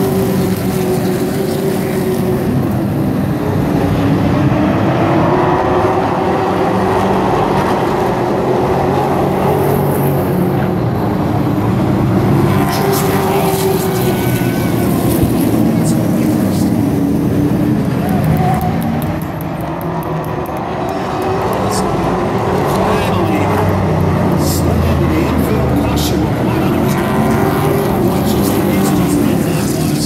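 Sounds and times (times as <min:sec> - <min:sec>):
race trucks passing at speed: 0:00.0 - 0:30.0.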